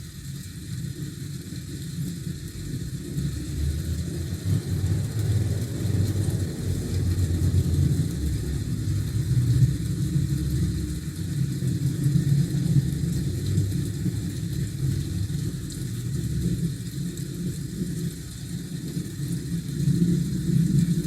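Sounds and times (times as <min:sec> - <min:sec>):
steady low rumble: 0:01.1 - 0:21.0.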